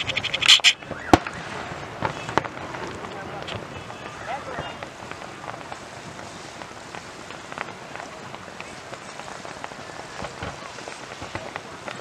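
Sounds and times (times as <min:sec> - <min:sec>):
fireworks crackling: 0:00.0 - 0:12.0
loud firework pops: 0:00.4 - 0:12.0.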